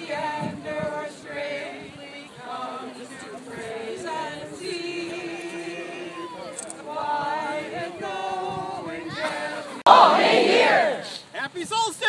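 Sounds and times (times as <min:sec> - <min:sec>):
people singing: 0:00.0 - 0:11.2
crowd talking: 0:00.0 - 0:11.3.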